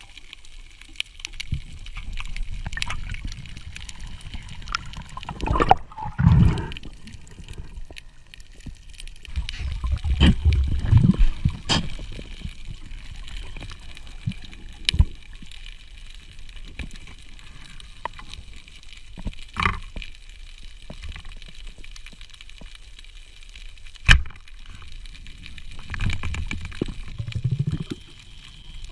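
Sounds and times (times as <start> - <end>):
muffled underwater hiss: 0.0 - 28.9.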